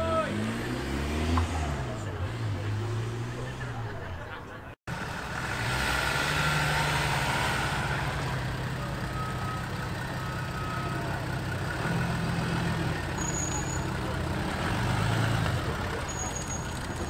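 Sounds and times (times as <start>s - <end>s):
cars passing slowly: 0.0s - 17.0s.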